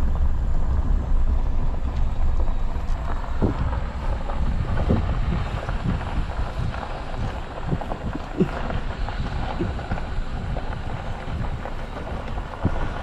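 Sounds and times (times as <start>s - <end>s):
vehicle driving rumble: 0.0s - 13.0s
wind buffeting microphone: 0.0s - 13.0s.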